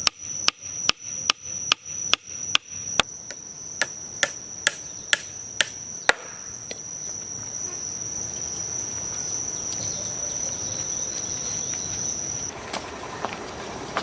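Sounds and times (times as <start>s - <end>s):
cricket trilling: 0.0s - 12.5s.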